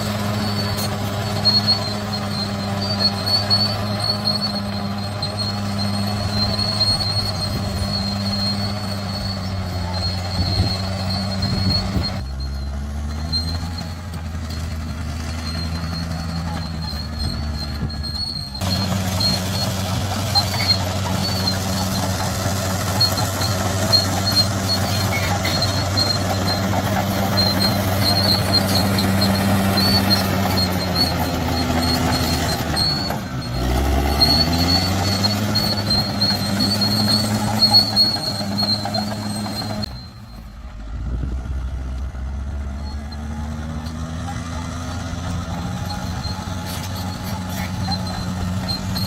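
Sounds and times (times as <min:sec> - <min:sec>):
bulldozer diesel engine working: 0:00.0 - 0:49.0.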